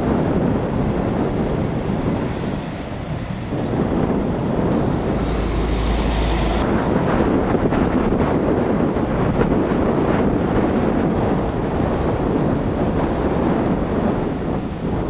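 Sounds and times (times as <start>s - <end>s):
passing highway traffic: 0.0s - 15.0s
wind buffeting microphone: 0.0s - 15.0s.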